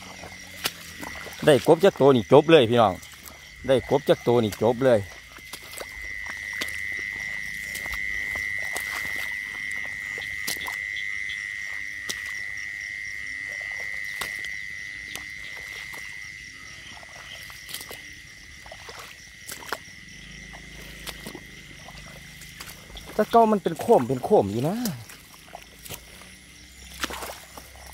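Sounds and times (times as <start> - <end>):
frogs calling: 0.0 - 27.9.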